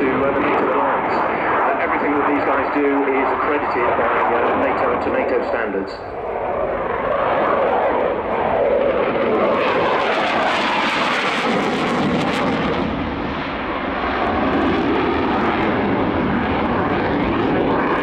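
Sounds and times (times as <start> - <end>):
loud jet engine noise: 0.0 - 18.0.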